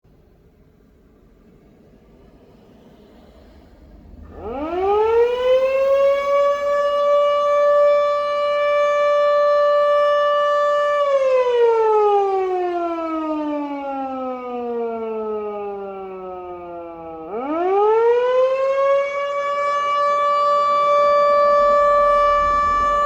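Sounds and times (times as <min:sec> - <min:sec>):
fire siren winding up and down: 0:04.0 - 0:23.0.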